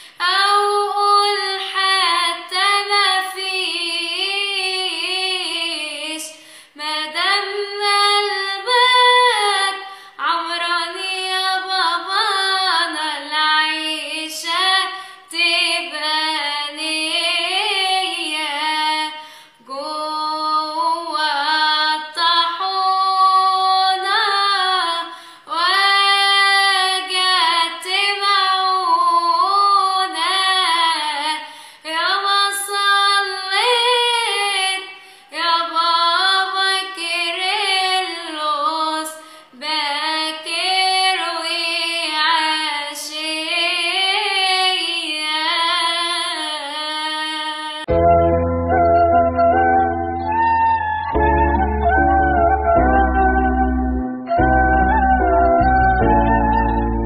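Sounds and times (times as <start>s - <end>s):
woman singing a hymn: 0.0s - 47.9s.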